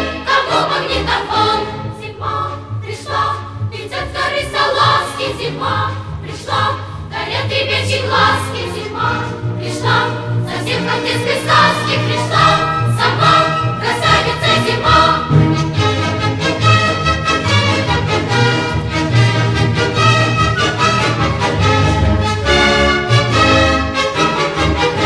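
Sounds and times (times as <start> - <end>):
choir singing festive song: 0.0 - 25.0
steady bass accompaniment: 0.0 - 25.0.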